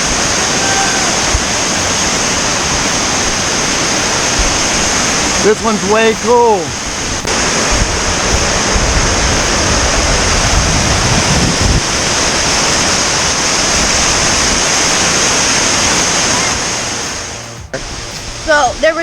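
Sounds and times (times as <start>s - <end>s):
waterfall rushing: 0.0s - 19.0s
wind buffeting microphone: 0.0s - 19.0s.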